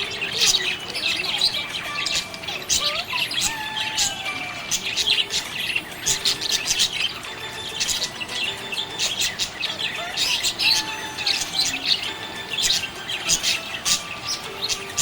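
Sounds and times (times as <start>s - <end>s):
budgerigar chirping: 0.0s - 15.0s.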